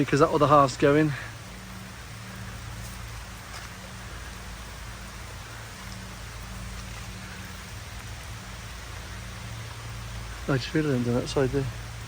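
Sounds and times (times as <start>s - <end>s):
heavy rain falling: 0.0s - 12.0s
low steady hum: 0.0s - 12.0s.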